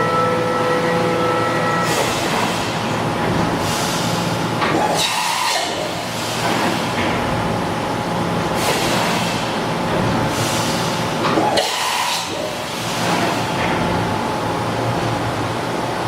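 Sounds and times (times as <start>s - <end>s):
machining center hum and whine: 0.0s - 16.0s.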